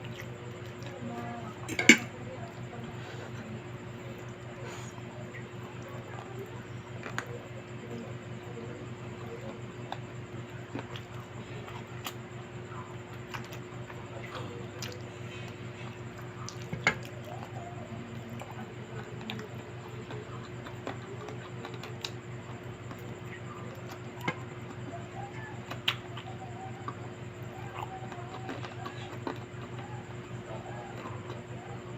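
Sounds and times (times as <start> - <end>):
chewing and wet squishing: 0.0 - 31.9
steady low hum: 0.0 - 31.9.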